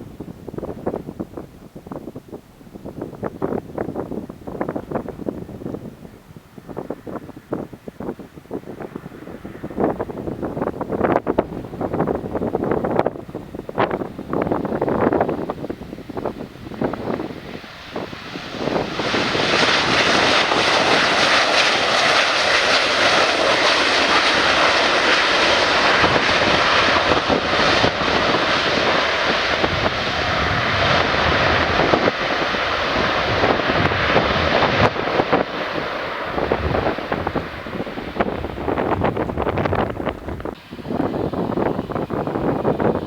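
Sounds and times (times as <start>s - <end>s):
airliner engines roaring: 0.0s - 43.0s.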